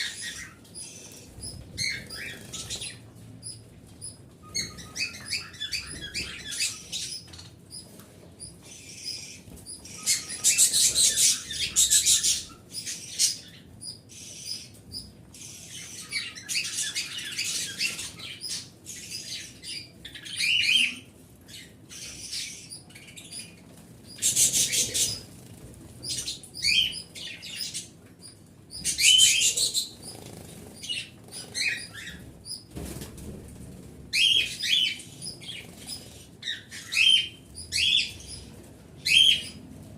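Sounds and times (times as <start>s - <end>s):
pet birds chirping and chattering: 0.0s - 39.9s.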